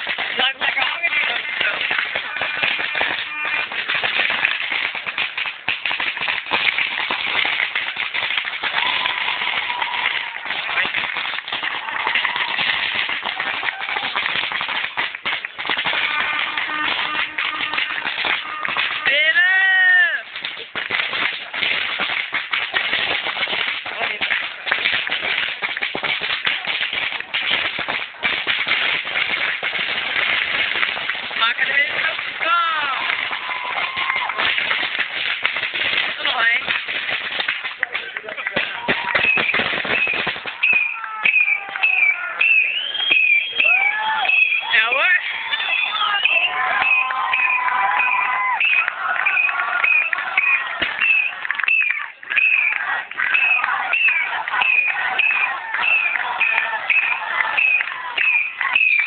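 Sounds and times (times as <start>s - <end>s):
crowd noise: 0.0s - 59.0s
firecrackers popping: 0.0s - 59.0s.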